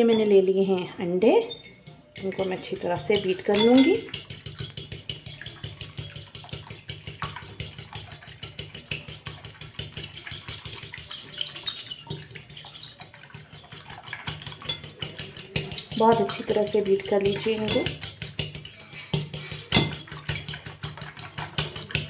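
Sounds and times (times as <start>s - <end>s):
fork clattering against bowl: 0.0s - 22.0s.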